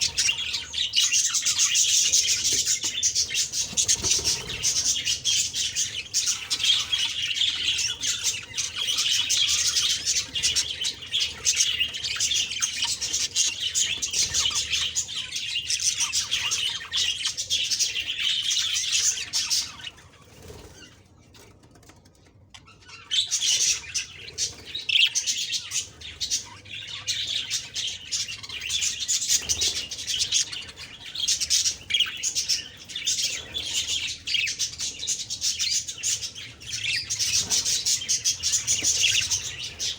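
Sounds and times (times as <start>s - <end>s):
budgerigars chirping: 0.0s - 21.0s, 22.6s - 39.9s.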